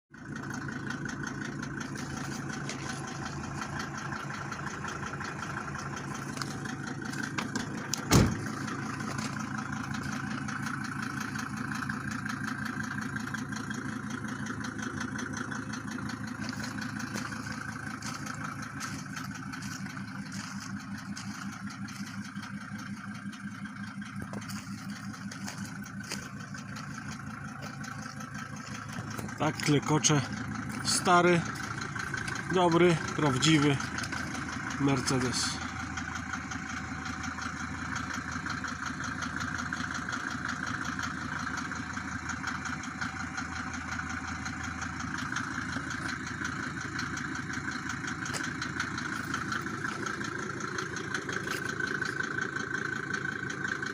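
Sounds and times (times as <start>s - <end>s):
diesel engine idling clatter: 0.1s - 53.9s.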